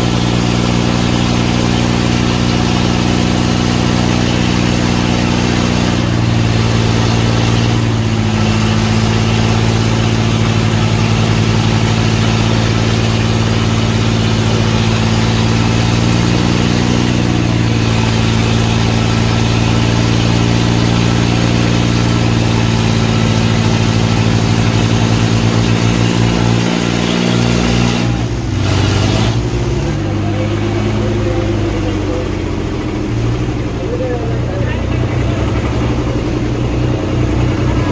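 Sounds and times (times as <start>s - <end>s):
diesel tractor engines under load: 0.0s - 37.9s.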